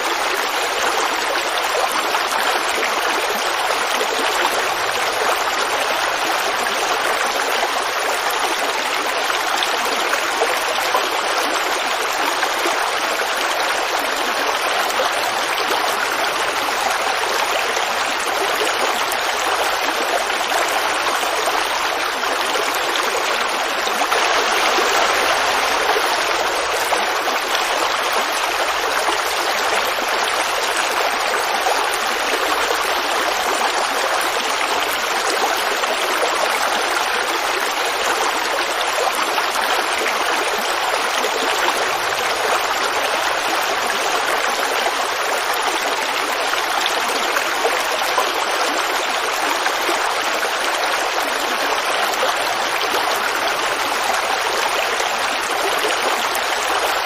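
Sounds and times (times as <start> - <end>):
creek water babbling over stones: 0.0 - 57.0.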